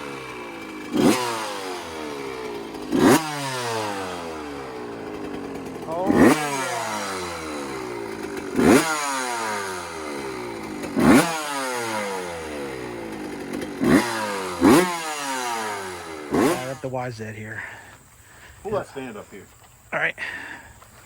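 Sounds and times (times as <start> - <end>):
two-stroke engine revving: 0.0 - 17.8.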